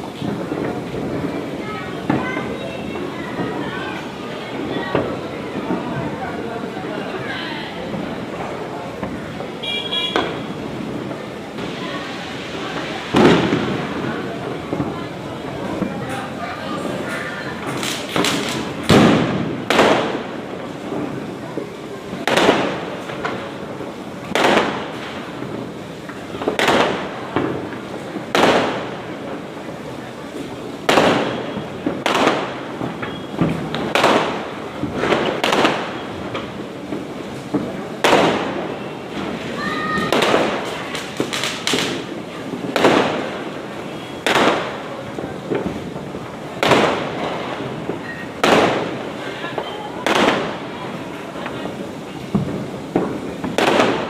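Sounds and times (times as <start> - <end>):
distant crackling: 0.0 - 54.0
firecracker bangs: 0.0 - 54.0
small firecracker cracks: 0.0 - 54.0.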